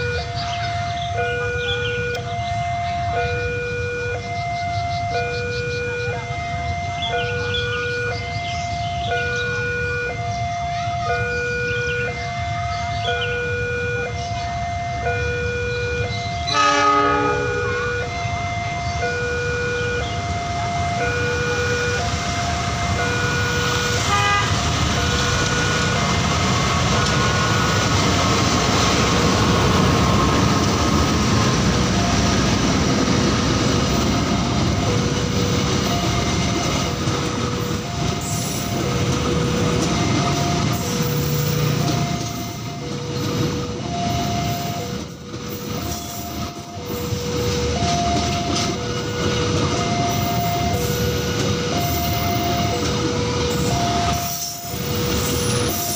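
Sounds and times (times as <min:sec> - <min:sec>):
train wheels rushing on rails: 0:00.0 - 0:55.9
two-tone crossing warning signal: 0:00.0 - 0:55.9.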